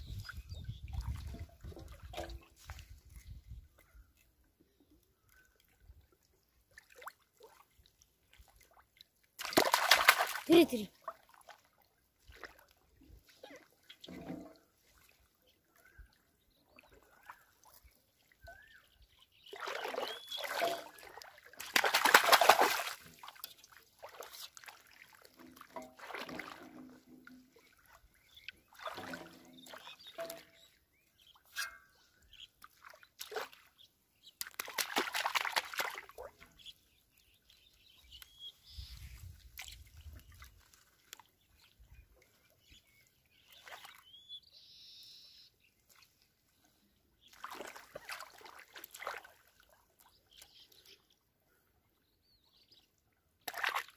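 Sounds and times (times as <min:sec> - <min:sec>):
pond water splashing and sloshing: 0:00.0 - 0:53.9.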